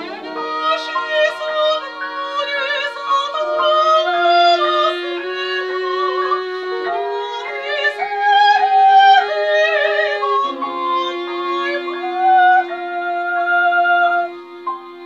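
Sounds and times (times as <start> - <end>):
woman singing with vibrato: 0.0 - 14.4
bowed cello notes: 0.0 - 15.0.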